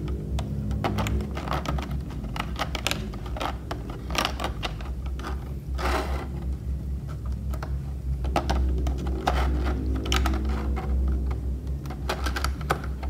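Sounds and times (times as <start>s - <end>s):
plastic pieces clicking and tapping: 0.0s - 13.0s
steady low hum: 0.0s - 13.0s
plastic tray crinkling: 0.1s - 13.0s.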